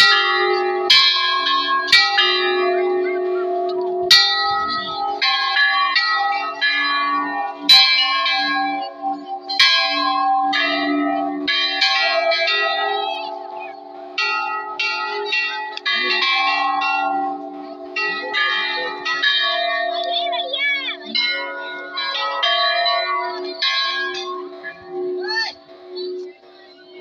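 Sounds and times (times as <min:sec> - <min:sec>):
metal temple bells ringing: 0:00.0 - 0:27.0.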